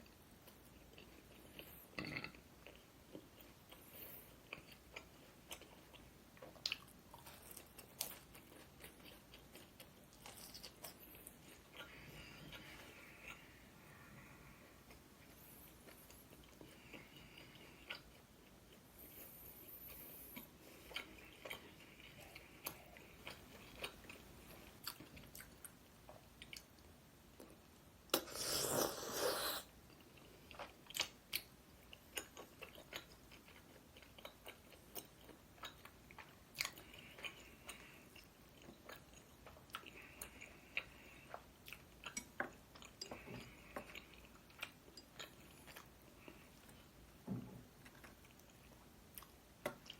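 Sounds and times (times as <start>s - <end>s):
chewing crunchy food: 0.0s - 47.0s, 47.7s - 49.9s.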